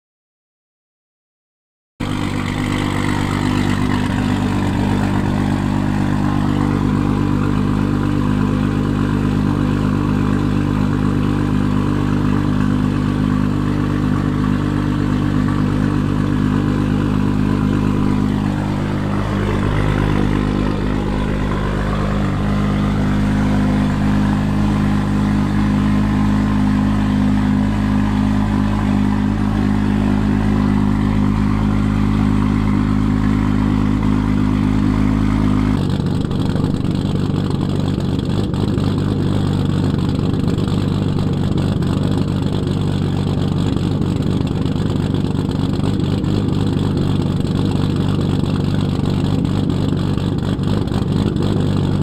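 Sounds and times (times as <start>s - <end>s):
car engine idling: 2.0s - 52.0s.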